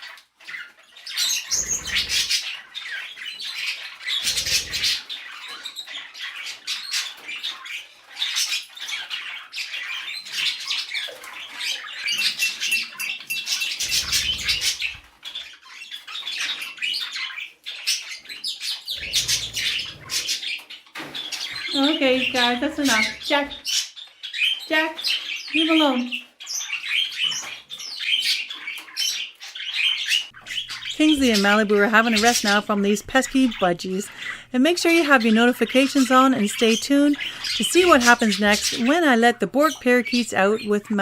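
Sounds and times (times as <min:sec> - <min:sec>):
budgerigars chattering and squawking: 0:00.0 - 0:41.0.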